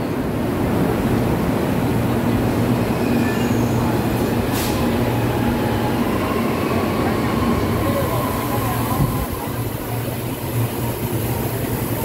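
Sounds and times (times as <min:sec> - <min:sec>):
train equipment humming: 0:00.0 - 0:12.0.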